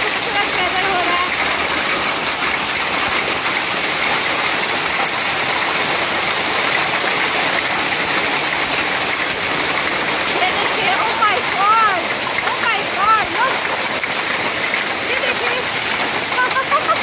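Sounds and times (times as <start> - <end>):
hailstones pattering on ground: 0.0 - 17.0.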